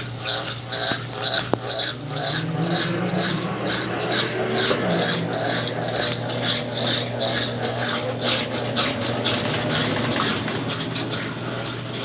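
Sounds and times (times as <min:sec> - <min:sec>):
washing machine agitator sloshing: 0:00.0 - 0:12.0
washing machine motor hum: 0:00.0 - 0:12.0.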